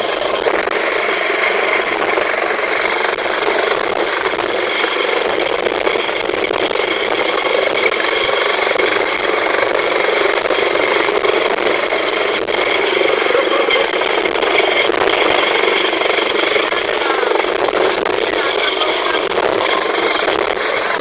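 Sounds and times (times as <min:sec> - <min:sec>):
helicopter rotor and turbine noise: 0:00.0 - 0:21.0.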